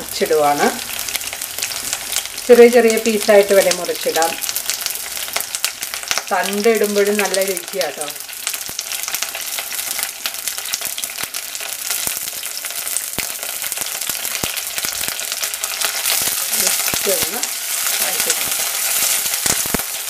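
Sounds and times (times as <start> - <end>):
spices sizzling in hot oil: 0.0 - 20.0.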